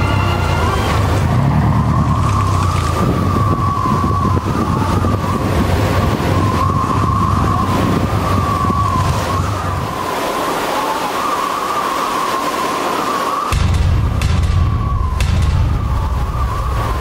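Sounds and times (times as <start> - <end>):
wavering high whistle: 0.0 - 13.6, 14.3 - 17.0
boat engine humming: 0.0 - 17.0
wind noise: 0.0 - 17.0.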